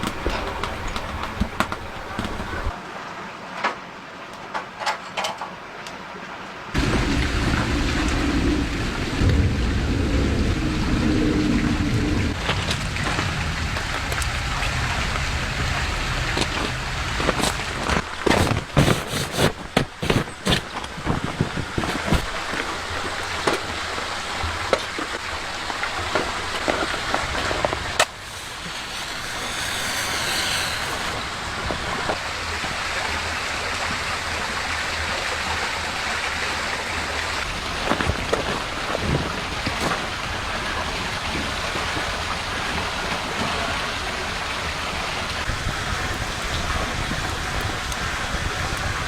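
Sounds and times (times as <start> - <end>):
rain pattering: 0.0 - 2.7, 6.8 - 18.9, 19.7 - 49.0.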